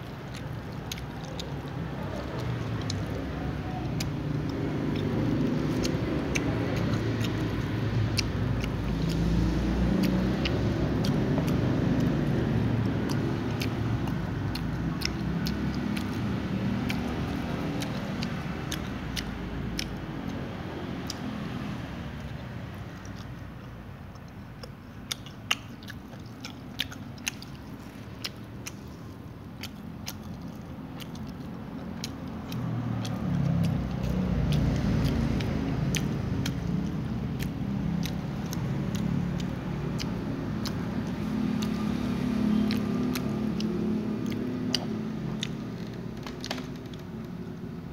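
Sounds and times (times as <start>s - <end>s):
cat chewing crunchy food: 0.0s - 47.9s.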